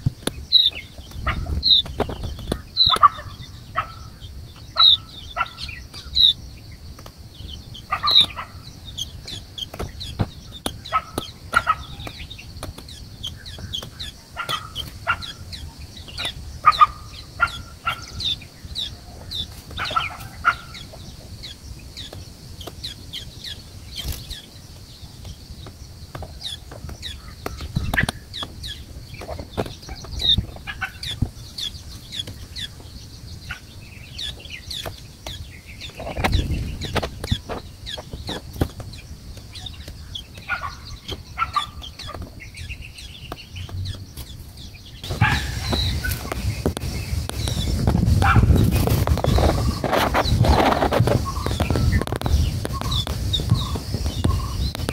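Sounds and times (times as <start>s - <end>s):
birds chirping: 0.0s - 54.9s
lower bird call: 0.0s - 54.9s.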